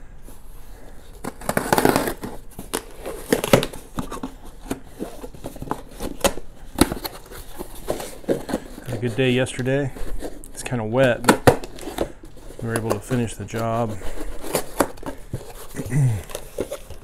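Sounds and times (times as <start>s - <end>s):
packaging crinkling and rustling: 0.7s - 17.0s.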